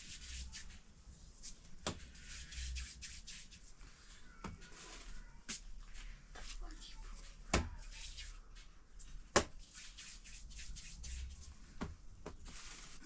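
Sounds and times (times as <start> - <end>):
hands rubbing bread dough: 0.0 - 13.0.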